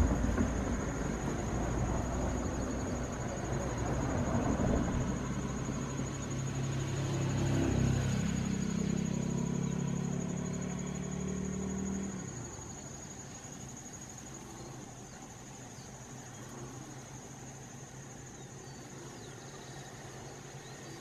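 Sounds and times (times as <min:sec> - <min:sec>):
insect trilling: 0:00.0 - 0:21.0
vehicle engine humming: 0:00.0 - 0:21.0.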